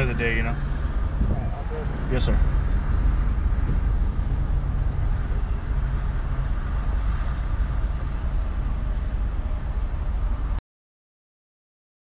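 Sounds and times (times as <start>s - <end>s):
low vehicle rumble: 0.0s - 10.6s.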